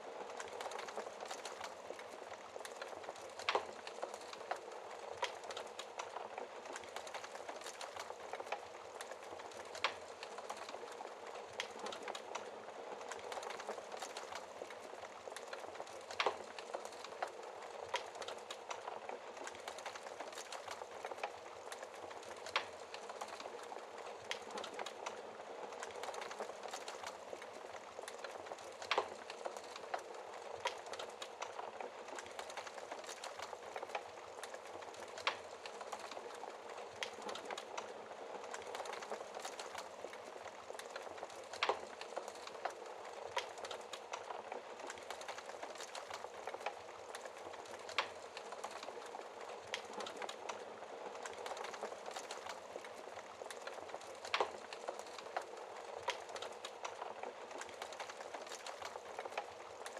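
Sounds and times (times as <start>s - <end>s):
fire crackling and popping: 0.0s - 59.9s
wood fire hissing: 0.0s - 59.9s.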